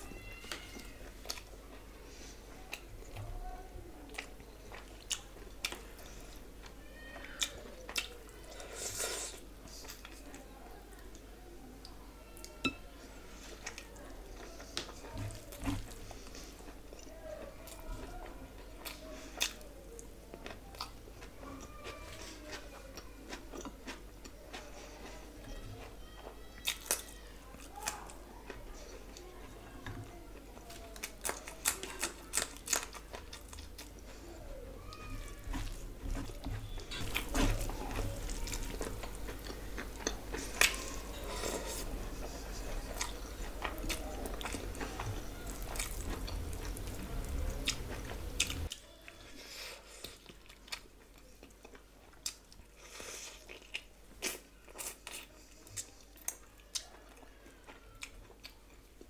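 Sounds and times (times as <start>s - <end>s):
low background hum: 0.0s - 59.0s
wet chewing and mouth sounds: 0.3s - 3.4s, 4.0s - 12.7s, 13.3s - 59.0s.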